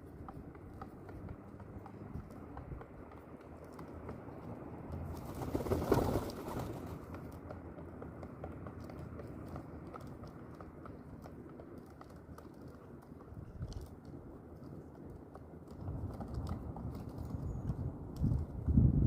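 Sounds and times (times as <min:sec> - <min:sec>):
pigeons pecking at food: 0:00.0 - 0:19.0.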